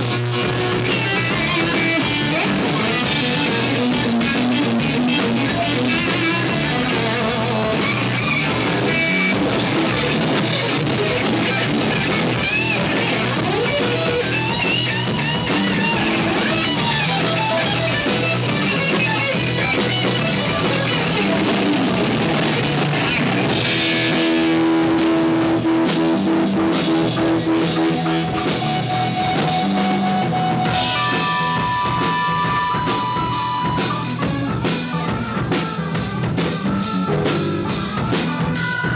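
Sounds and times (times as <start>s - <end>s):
held guitar notes ringing: 0.0s - 38.9s
rock band playing live: 0.0s - 38.9s.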